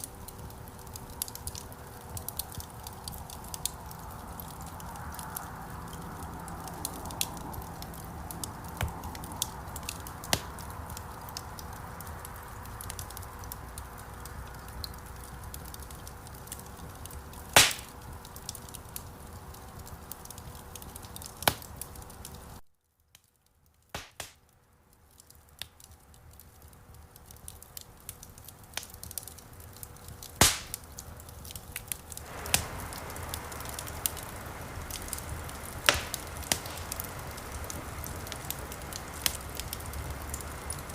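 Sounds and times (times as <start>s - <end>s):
loud fire pops: 0.0s - 22.5s, 23.9s - 24.4s, 27.0s - 40.9s
wood fire crackling: 0.0s - 40.9s.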